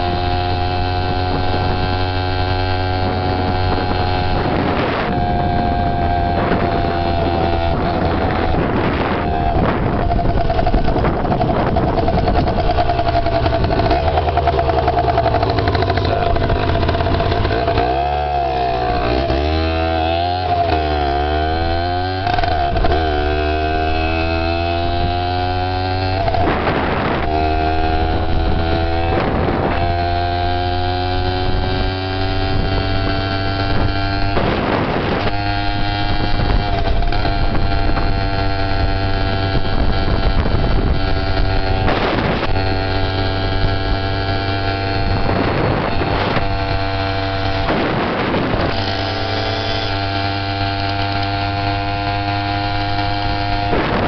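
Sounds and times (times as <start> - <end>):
dirt bike engine running: 0.0 - 54.0
wind buffeting microphone: 0.0 - 54.0.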